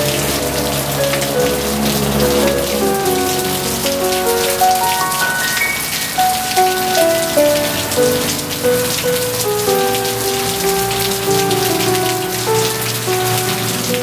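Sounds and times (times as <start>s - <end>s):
rain pattering: 0.0s - 14.0s
soft piano music: 0.0s - 14.0s.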